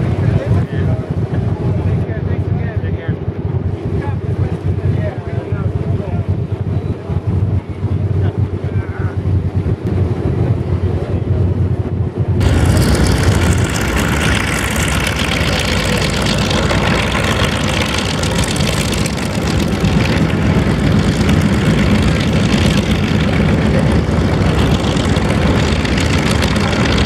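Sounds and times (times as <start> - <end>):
propeller plane engine rumble: 0.0 - 27.0.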